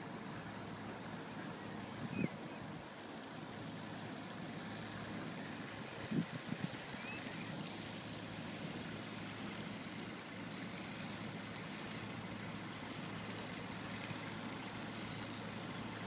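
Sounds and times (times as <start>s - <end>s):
engine and pump hum: 0.0s - 16.0s
slurry spraying from hose: 0.0s - 16.0s.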